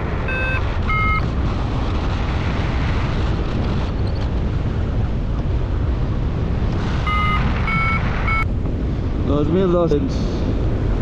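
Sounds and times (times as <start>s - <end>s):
wind noise over microphone: 0.0s - 11.0s.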